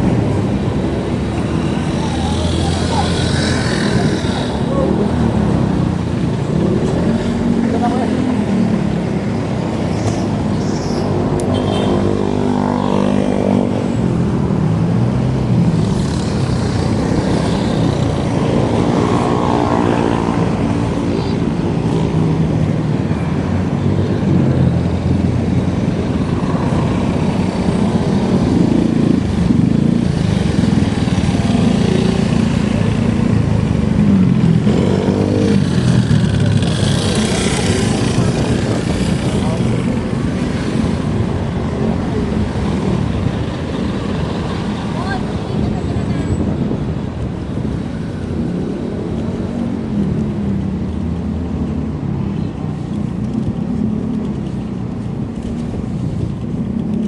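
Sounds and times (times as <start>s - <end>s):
passing vehicle engines: 0.0s - 57.0s
road noise: 0.0s - 57.0s.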